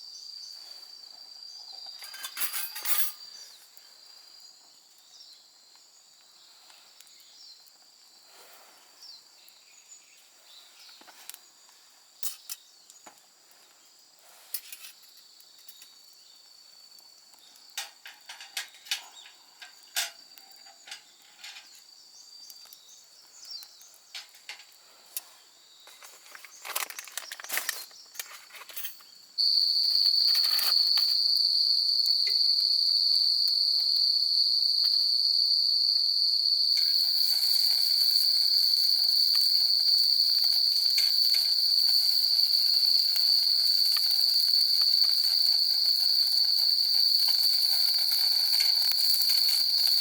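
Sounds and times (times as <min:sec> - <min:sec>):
insects trilling: 0:00.0 - 0:50.0
wood fire crackling and popping: 0:03.1 - 0:08.3, 0:09.1 - 0:50.0.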